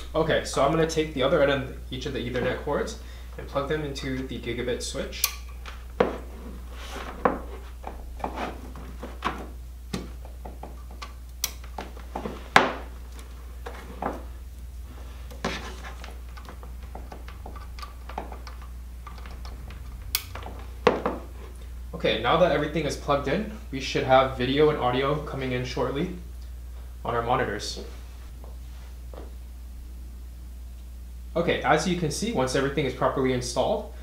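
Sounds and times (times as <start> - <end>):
low hum: 0.0 - 31.4.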